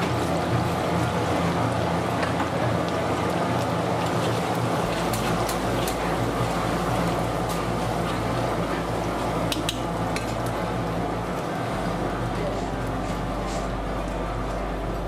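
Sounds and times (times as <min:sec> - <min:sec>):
food sizzling and bubbling in pan: 0:00.0 - 0:15.0
steady low hum: 0:00.0 - 0:15.0.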